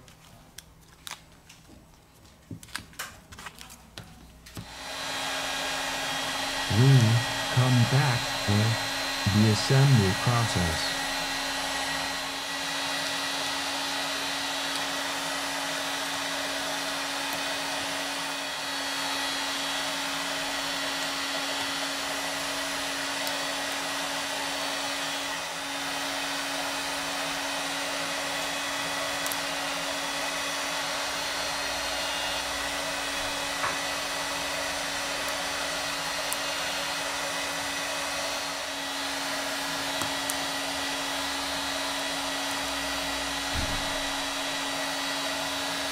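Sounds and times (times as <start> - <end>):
fan motor whirring: 4.5 - 45.9.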